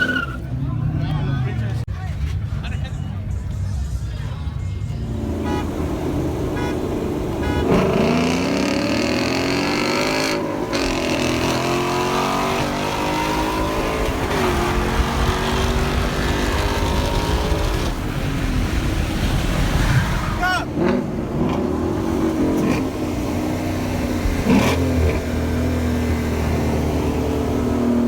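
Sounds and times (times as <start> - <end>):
car engine accelerating hard: 5.0 - 28.0.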